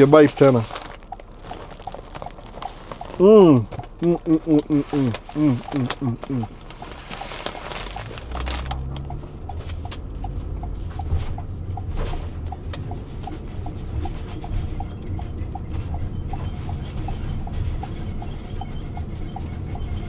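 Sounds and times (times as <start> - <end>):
even ticking: 0.0 - 20.0
road and engine rumble in car: 0.0 - 20.0.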